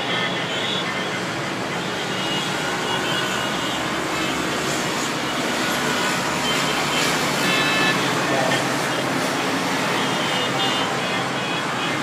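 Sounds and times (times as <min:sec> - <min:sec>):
heavy road traffic: 0:00.0 - 0:12.0.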